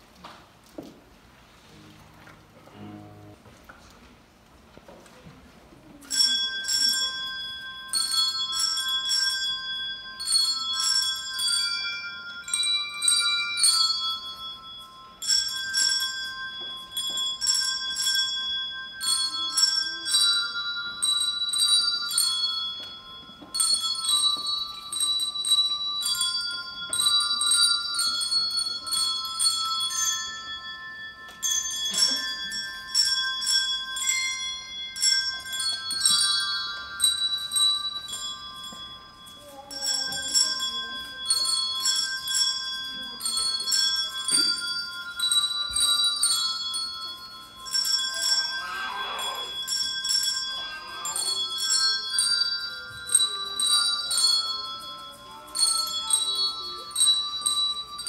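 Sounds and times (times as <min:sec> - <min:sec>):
handbells playing slow melody: 0:00.8 - 0:03.8, 0:05.2 - 0:58.0.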